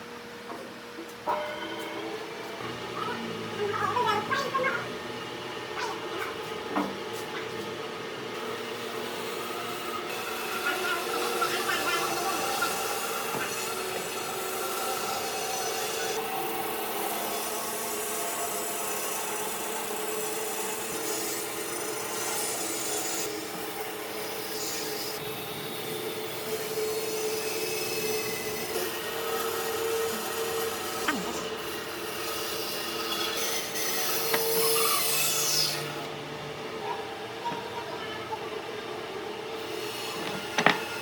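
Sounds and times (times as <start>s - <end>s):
power tool working wood: 2.0s - 36.2s, 39.4s - 41.0s.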